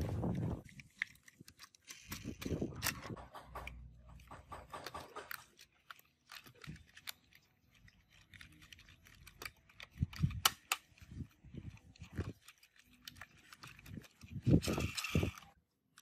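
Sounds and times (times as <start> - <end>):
small parts clicking and scraping: 0.0 - 16.0.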